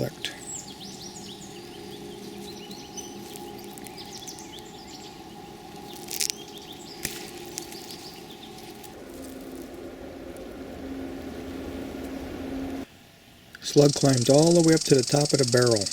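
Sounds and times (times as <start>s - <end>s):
faint bird chirps: 0.0s - 9.5s, 10.1s - 15.9s
crackle of handled plants: 0.0s - 12.8s
faint hum: 0.0s - 15.9s.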